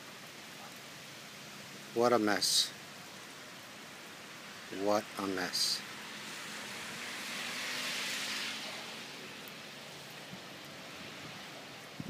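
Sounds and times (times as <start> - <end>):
floodwater rushing: 0.0 - 12.0
rain falling: 0.0 - 12.0.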